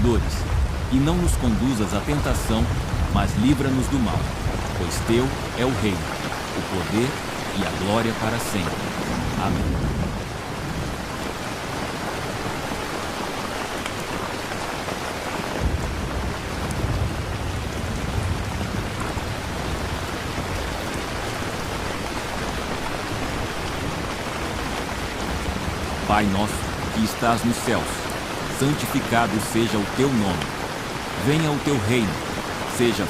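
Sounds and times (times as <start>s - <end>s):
thunder rumbling: 0.0s - 29.4s
steady rain: 0.0s - 33.0s.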